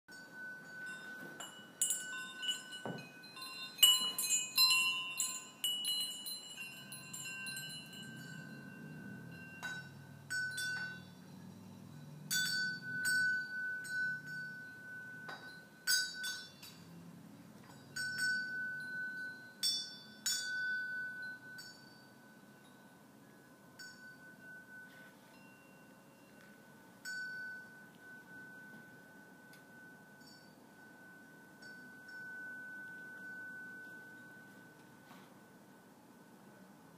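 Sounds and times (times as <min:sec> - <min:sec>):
small cowbells clinking: 0:00.1 - 0:36.9.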